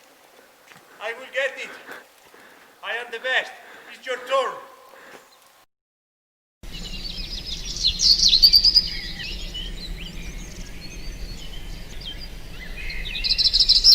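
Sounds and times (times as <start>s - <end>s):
birds chirping and trilling: 0.0s - 5.6s, 6.6s - 13.9s.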